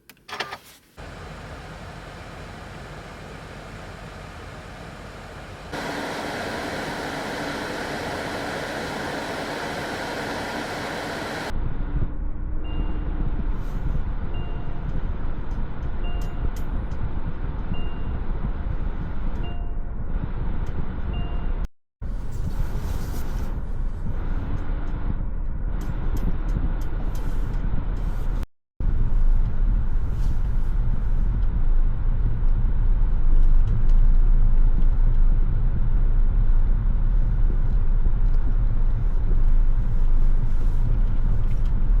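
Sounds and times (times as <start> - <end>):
car driving rumble: 1.0 - 42.0.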